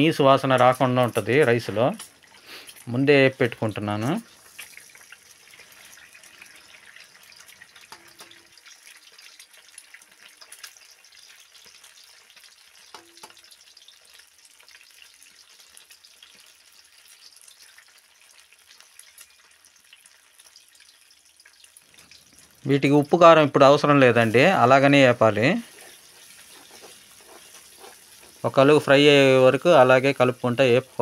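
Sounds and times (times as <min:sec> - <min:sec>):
eggs sizzling in oil: 0:00.0 - 0:31.0.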